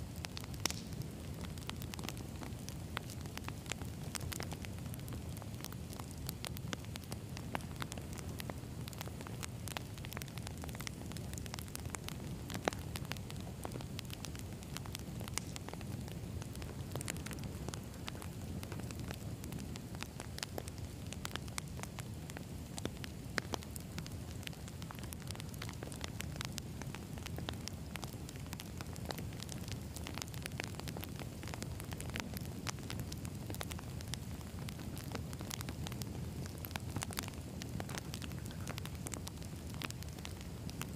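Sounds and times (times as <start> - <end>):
fire crackling and popping: 0.0 - 40.9
rumble of flames: 0.0 - 40.9.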